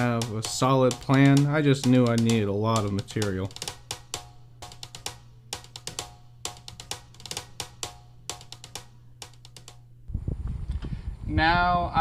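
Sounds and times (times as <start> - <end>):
music with drum beat: 0.0 - 9.9.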